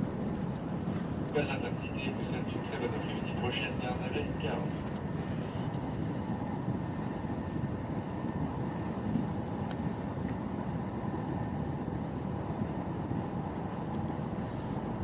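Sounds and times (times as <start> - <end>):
train coach rumble: 0.0 - 15.0.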